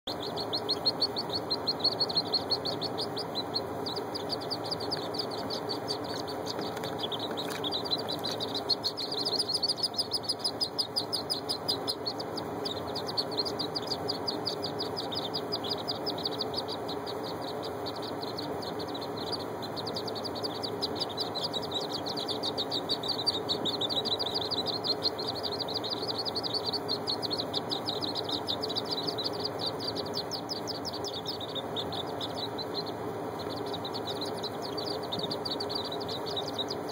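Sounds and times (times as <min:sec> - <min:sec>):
ducklings peeping: 0:00.1 - 0:36.9.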